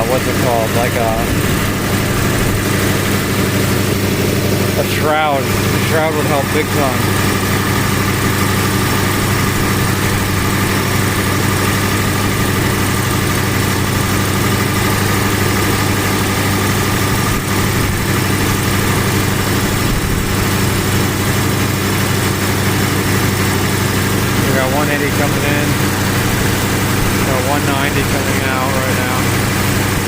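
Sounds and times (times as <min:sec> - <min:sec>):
car engine idling: 0:00.0 - 0:30.0
electric radiator fans running: 0:00.0 - 0:30.0.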